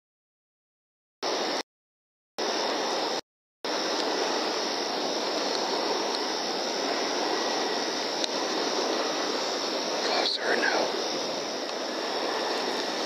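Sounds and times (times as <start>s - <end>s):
steady microphone hiss: 2.4s - 13.0s.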